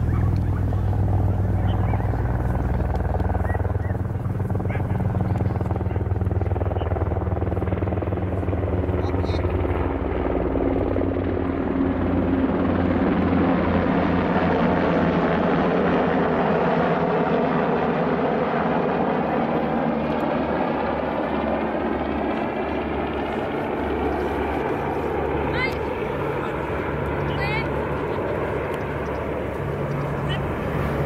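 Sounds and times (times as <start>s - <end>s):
helicopter engine drone overhead: 0.0s - 31.0s.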